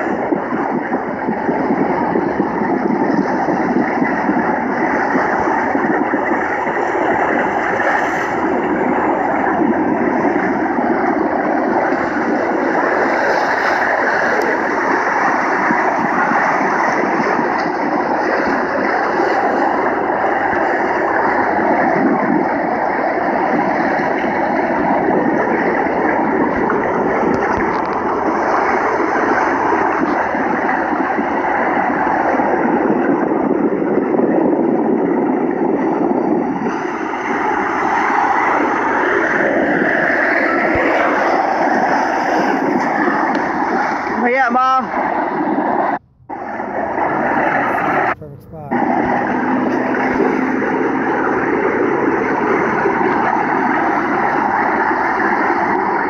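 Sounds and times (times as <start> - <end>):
wind and water rushing: 0.0 - 56.0.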